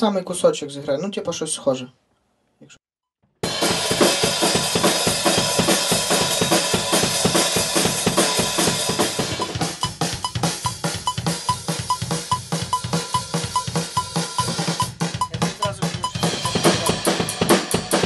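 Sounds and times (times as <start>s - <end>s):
rock drum kit fast beat: 3.4s - 18.0s.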